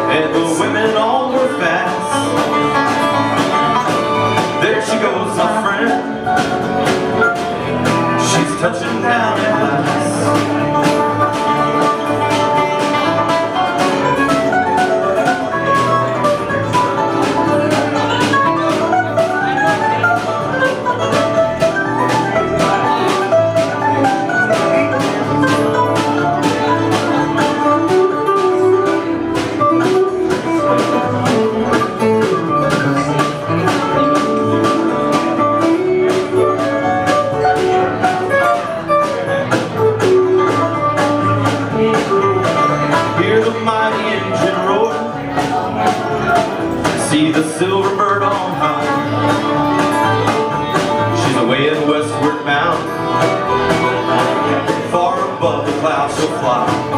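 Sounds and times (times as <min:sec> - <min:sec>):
lead instrument melody: 0:00.0 - 0:56.9
live band playing instrumental: 0:00.0 - 0:56.9
strummed rhythm: 0:00.0 - 0:56.9.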